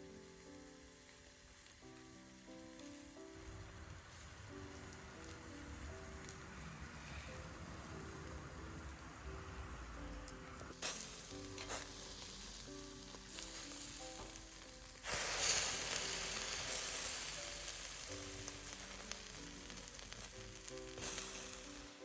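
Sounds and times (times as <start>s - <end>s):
food sizzling in a hot pan: 0.0s - 22.0s.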